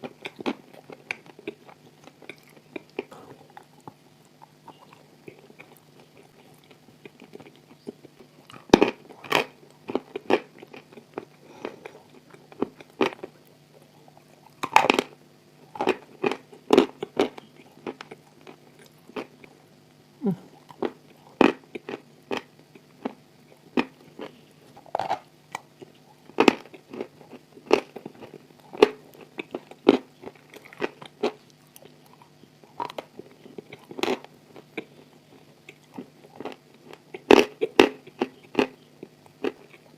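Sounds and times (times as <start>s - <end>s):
crunching and chewing chalk: 0.0s - 39.9s
faint steady hum: 0.0s - 39.9s.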